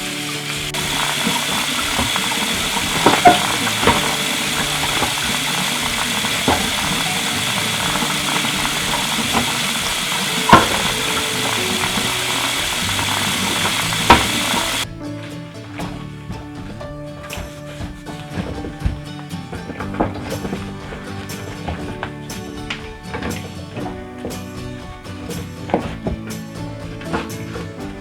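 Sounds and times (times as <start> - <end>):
items knocking in sink: 0.0 - 28.0
soft background music: 0.0 - 28.0
tap water running: 0.0 - 28.0.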